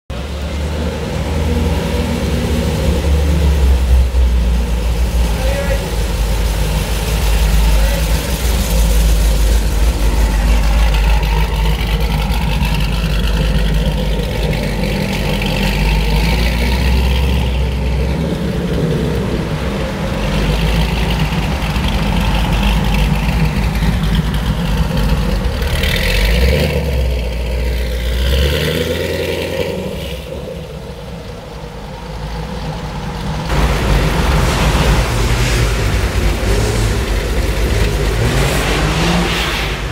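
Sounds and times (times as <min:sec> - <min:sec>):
car engine revving and accelerating: 0:00.1 - 0:39.9.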